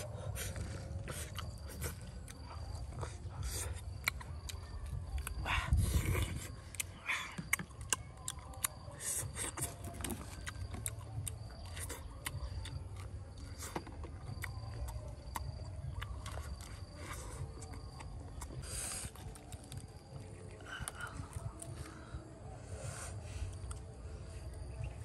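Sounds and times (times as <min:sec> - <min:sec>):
chewing with mouth clicks: 0:00.0 - 0:22.2, 0:23.5 - 0:25.0.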